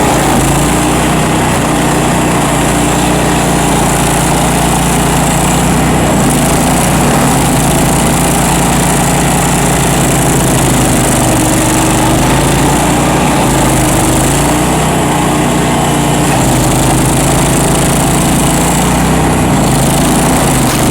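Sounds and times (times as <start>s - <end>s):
stump grinder engine running: 0.0s - 20.9s.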